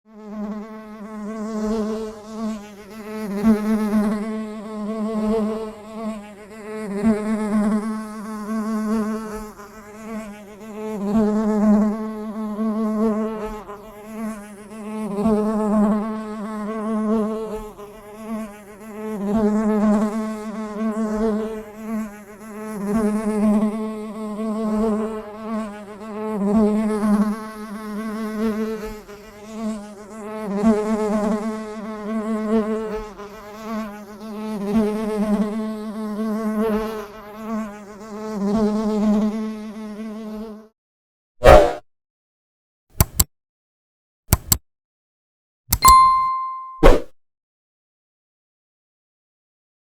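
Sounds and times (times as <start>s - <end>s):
bee buzzing in flight: 0.1s - 40.8s.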